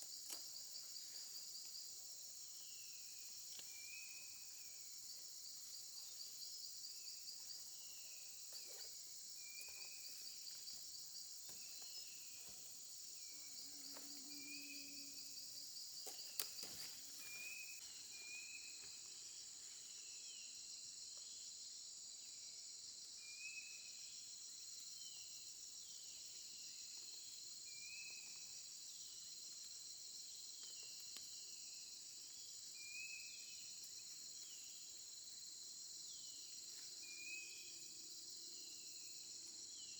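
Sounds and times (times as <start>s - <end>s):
crickets and insects: 0.0s - 39.9s.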